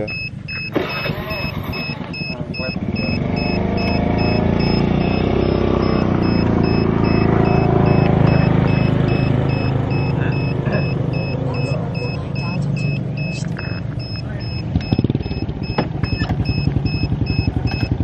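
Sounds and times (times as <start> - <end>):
high electronic beeping: 0.0 - 18.0
vehicle engine running: 0.0 - 18.0.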